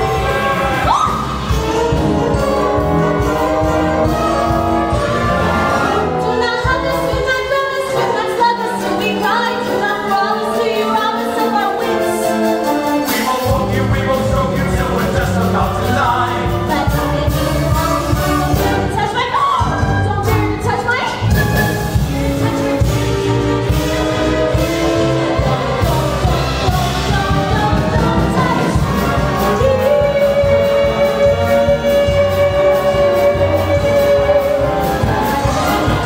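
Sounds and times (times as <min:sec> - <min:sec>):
voices singing together: 0:00.0 - 0:18.9, 0:22.2 - 0:36.0
instrumental accompaniment: 0:00.0 - 0:36.0.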